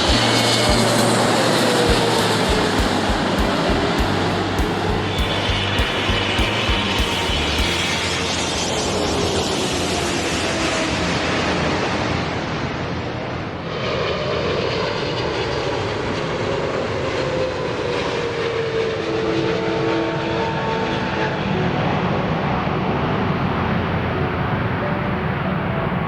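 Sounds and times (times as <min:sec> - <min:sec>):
jet engines roaring: 0:00.0 - 0:24.8
falling engine whine: 0:00.0 - 0:25.3.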